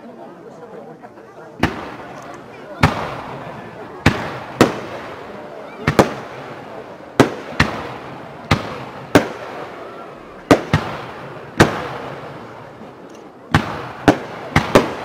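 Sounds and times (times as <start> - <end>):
rolling echo: 1.6 - 15.0.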